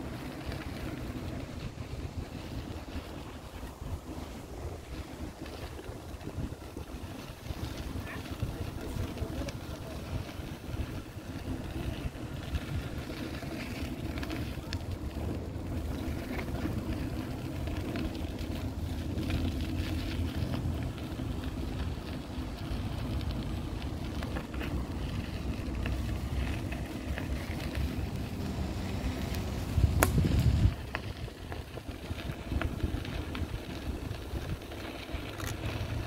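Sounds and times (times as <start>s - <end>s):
low street rumble: 0.0s - 36.0s.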